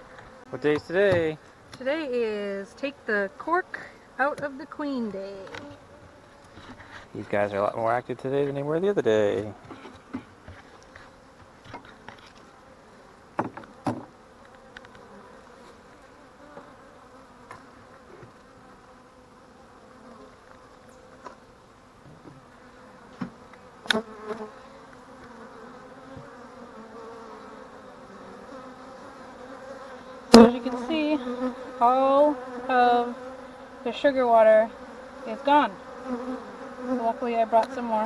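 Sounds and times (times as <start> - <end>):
honey bees buzzing: 0.0 - 38.0.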